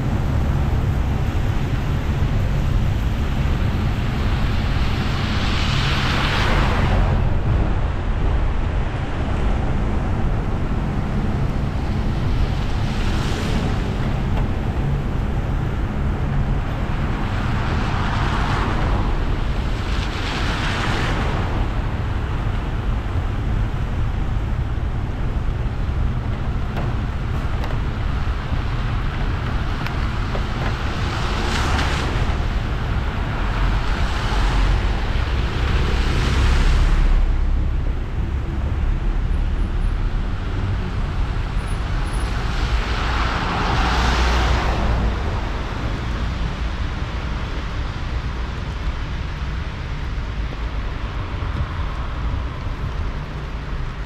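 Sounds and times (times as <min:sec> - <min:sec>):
traffic passing on wet road: 0:00.0 - 0:54.0
car driving in rain: 0:09.9 - 0:54.0.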